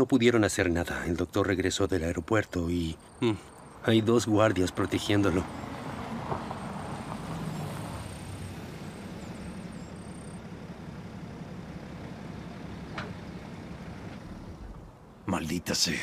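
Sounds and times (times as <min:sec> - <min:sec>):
car engine idling: 0:00.8 - 0:15.2.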